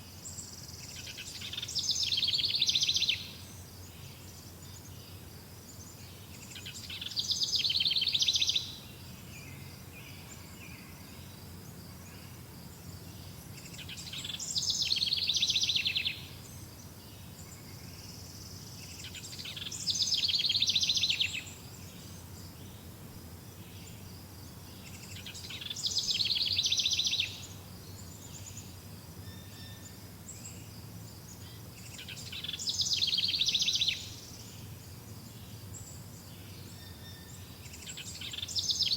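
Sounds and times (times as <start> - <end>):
low forest hum: 0.0 - 38.9
songbird singing: 0.0 - 38.9.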